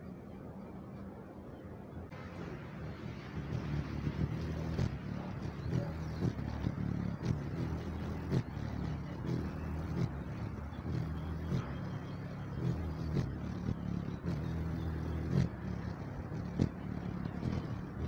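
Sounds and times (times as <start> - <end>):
hummingbird wings humming: 2.1 - 18.0.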